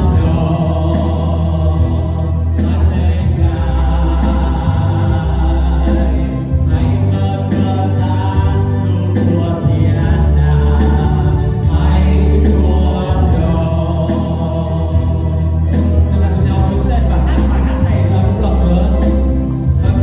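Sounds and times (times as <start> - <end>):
bass line: 0.0 - 20.0
choir singing gospel: 0.0 - 20.0
organ: 0.0 - 20.0
percussion strikes: 0.0 - 20.0.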